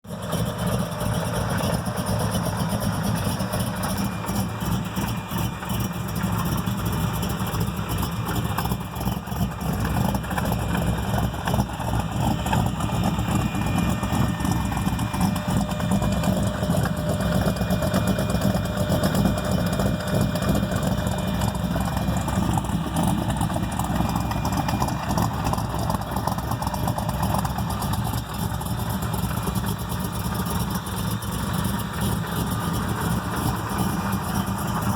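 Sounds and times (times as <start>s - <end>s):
engine idling roughly: 0.0s - 34.9s.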